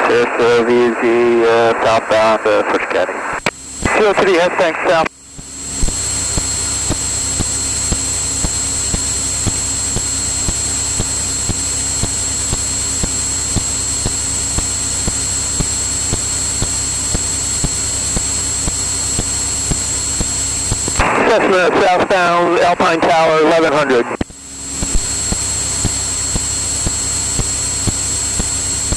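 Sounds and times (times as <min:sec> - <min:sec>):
airplane engine drone: 0:00.0 - 0:28.9
high steady whine: 0:00.0 - 0:28.9.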